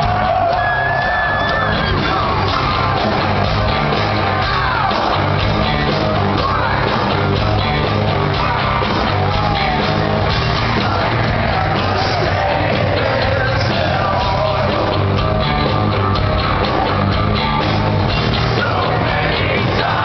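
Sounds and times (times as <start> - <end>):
hard rock band playing live: 0.0 - 20.0.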